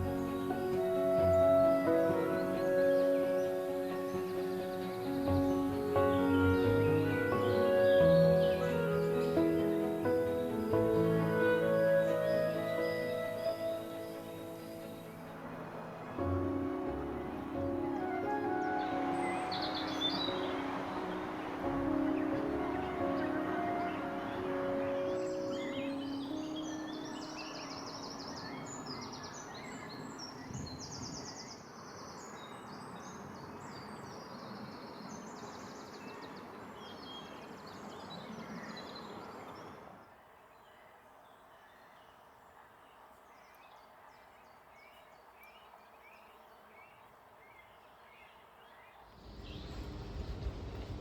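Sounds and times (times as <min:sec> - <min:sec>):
songbirds singing and calling: 0:00.0 - 0:50.4
steady background hiss: 0:00.0 - 0:51.0.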